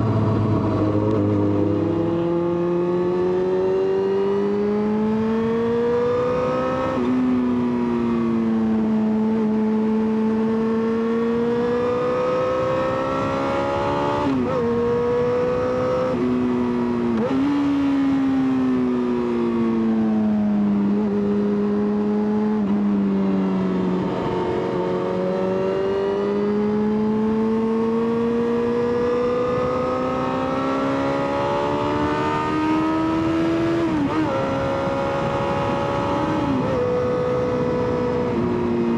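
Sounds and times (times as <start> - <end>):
motorcycle engine accelerating: 0.0 - 38.9
wind noise: 0.0 - 38.9.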